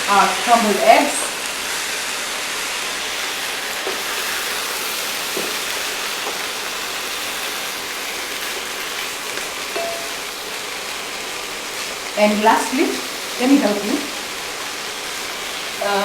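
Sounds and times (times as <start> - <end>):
food sizzling in hot pan: 0.0 - 16.0.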